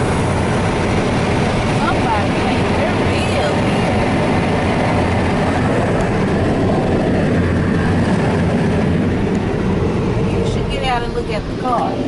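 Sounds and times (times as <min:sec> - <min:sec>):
car wash dryer blowers: 0:00.0 - 0:12.0.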